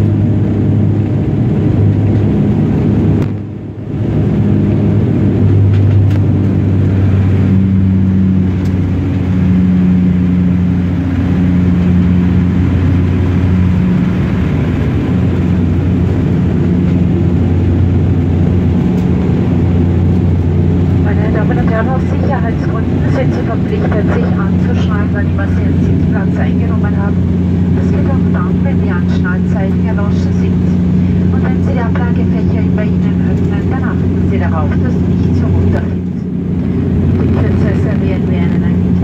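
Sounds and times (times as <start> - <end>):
airliner engine and propeller drone: 0.0 - 39.0.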